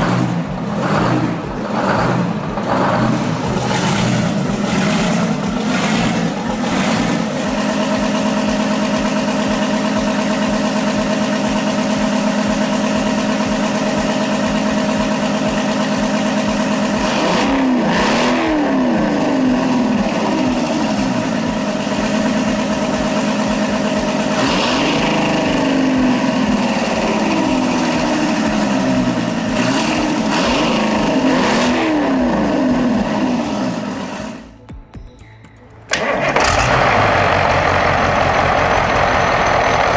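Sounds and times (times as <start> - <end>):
diesel tiller engine revving: 0.0 - 34.6, 35.9 - 39.9.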